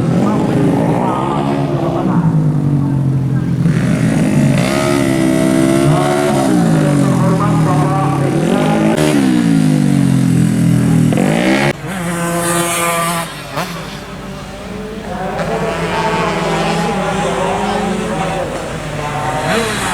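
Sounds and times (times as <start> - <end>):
scooter engines revving: 0.0 - 19.9
steady engine note with hiss: 0.0 - 19.9.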